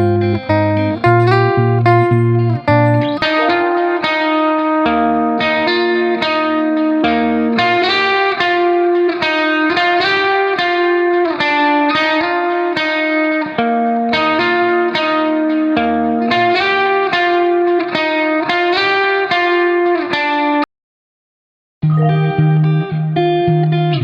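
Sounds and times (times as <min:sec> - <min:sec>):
plucked guitar music: 0:00.0 - 0:20.6, 0:21.8 - 0:24.0.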